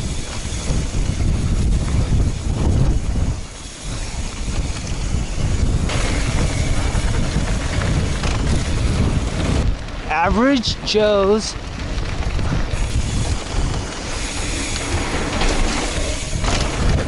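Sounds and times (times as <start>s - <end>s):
tyres rolling on dirt: 0.0s - 17.0s
wind buffeting microphone: 0.0s - 17.0s.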